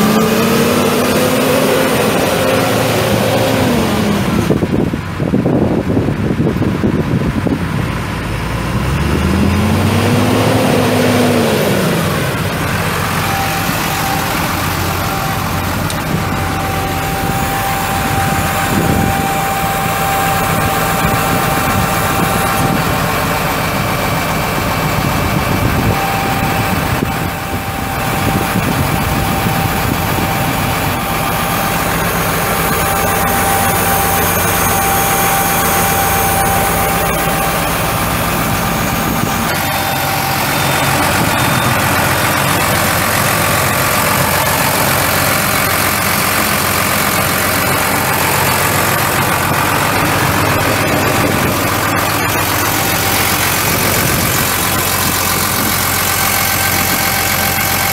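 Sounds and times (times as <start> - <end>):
tractor diesel engine idling: 0.0 - 57.9.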